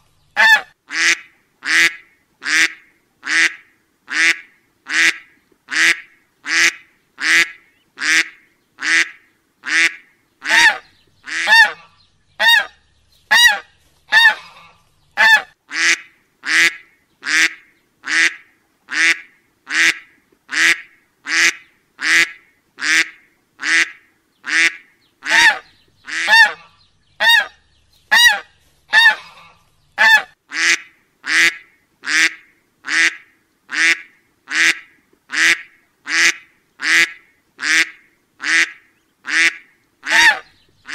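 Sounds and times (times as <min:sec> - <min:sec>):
duck quacking: 0:00.4 - 0:40.9.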